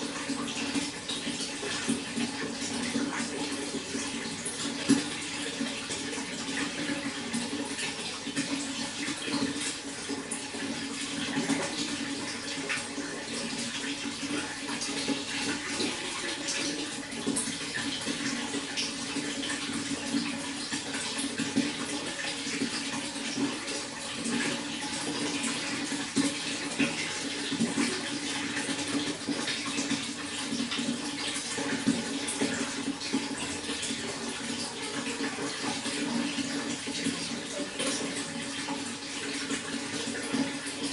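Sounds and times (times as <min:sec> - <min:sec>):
running water splashing: 0:00.0 - 0:40.9.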